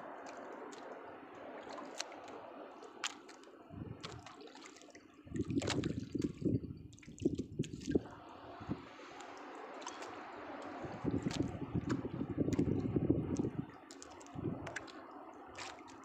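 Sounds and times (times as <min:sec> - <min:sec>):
water splashing against boat hull: 0:00.0 - 0:16.0.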